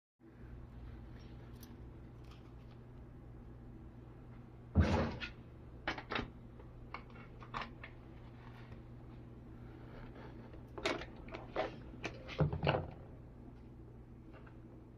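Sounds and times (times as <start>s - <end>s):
steady low hum: 0.2s - 14.9s.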